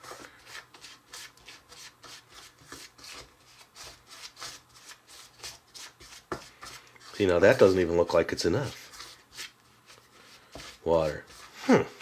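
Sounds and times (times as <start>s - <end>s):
fingers scratching dry cookie mix: 0.0s - 11.6s.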